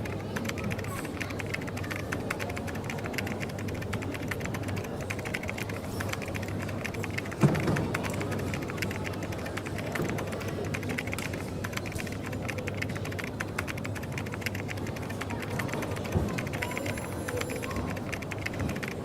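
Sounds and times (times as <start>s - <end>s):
cafe background hum: 0.0s - 19.0s
typing on a keyboard: 0.0s - 19.0s.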